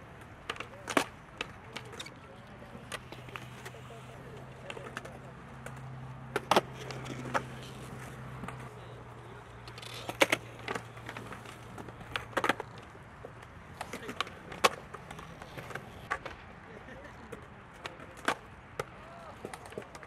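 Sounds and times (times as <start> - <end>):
skateboard wheels rolling: 0.0 - 20.0
skateboard decks slapping down: 0.2 - 16.5, 17.3 - 20.0
skateboard tails popping: 0.2 - 16.5, 17.2 - 20.0.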